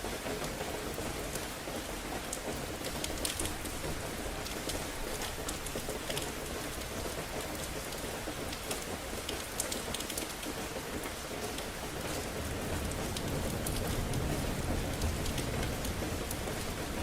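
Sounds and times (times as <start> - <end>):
rain on hard surfaces: 0.0 - 17.0
raindrop ticks: 2.2 - 17.0.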